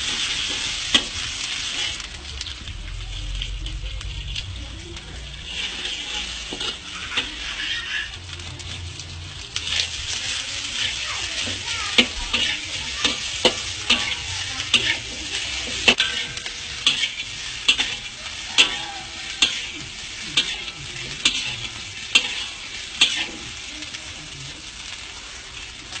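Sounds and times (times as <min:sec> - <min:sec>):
rice sizzling in a wok: 0:00.0 - 0:26.0
spatula scraping a wok: 0:00.0 - 0:26.0.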